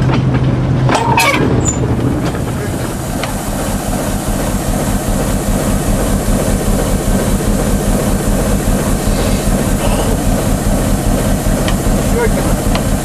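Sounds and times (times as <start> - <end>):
diesel engine running: 0.0 - 13.0
wheels rumbling on rails: 0.0 - 13.0.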